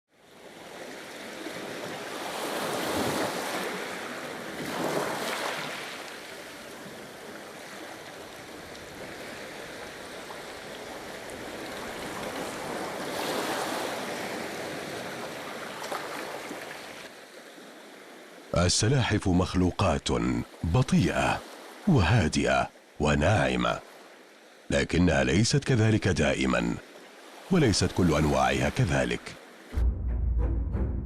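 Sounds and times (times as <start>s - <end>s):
waves washing in: 0.2s - 29.8s.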